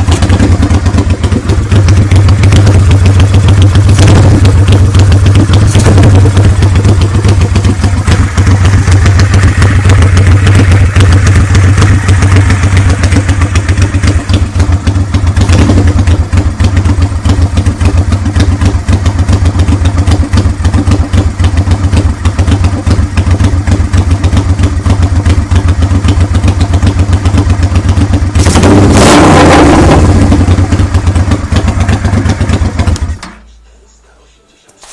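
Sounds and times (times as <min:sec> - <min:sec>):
motorcycle engine idling without exhaust: 0:00.0 - 0:28.6, 0:29.7 - 0:34.9.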